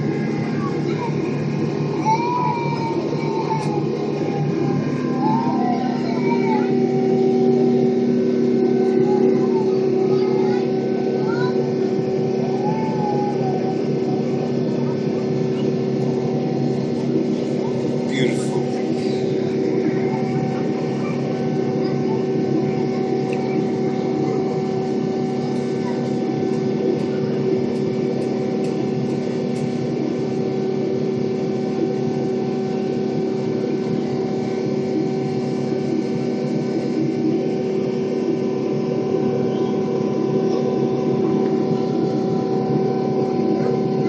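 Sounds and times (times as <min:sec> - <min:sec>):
jet engines humming in cabin: 0:00.0 - 0:44.0.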